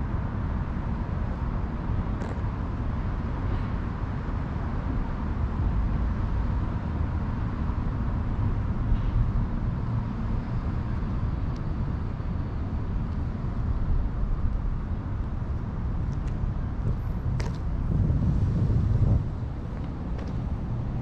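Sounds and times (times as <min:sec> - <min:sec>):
distant road traffic rumble: 0:00.0 - 0:21.0.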